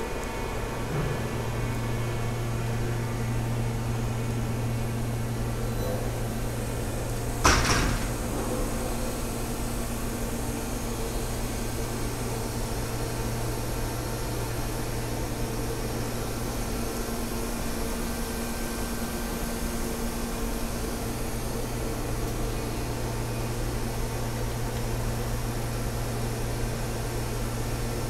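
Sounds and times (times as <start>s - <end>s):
machinery humming: 0.0s - 28.0s.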